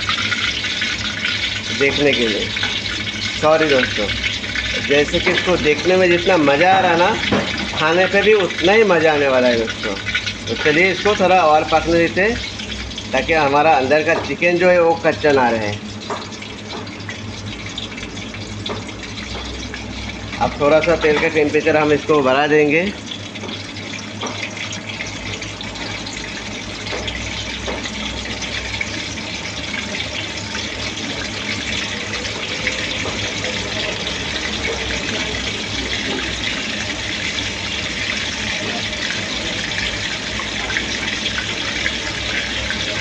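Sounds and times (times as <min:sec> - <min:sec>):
food deep-frying in oil: 0:00.0 - 0:43.0.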